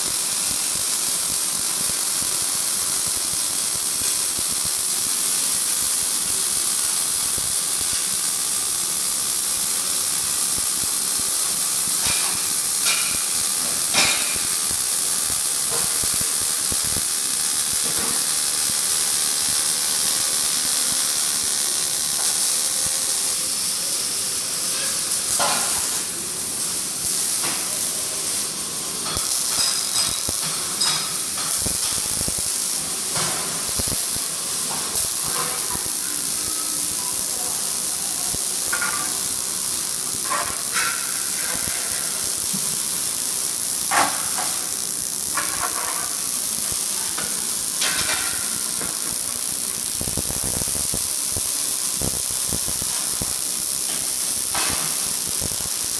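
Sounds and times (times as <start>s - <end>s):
welding arc sizzling hiss: 0.0s - 55.9s
welding pops: 0.0s - 55.9s.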